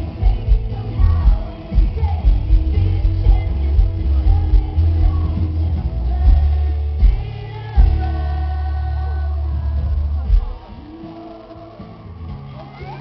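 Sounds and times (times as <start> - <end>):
bass guitar: 0.0 - 13.0
electric guitar: 0.0 - 13.0.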